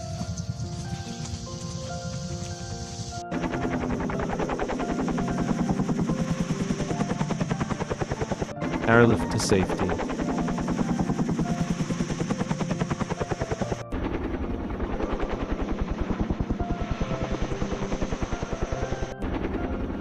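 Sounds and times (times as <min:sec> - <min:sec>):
helicopter rotor blades chopping: 0:00.0 - 0:20.0.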